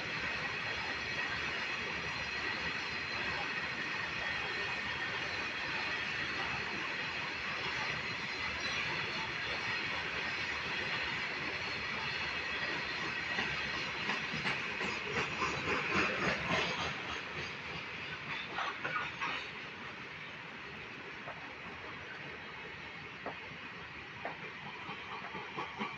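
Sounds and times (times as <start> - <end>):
train rumbling on rails: 0.0 - 25.9.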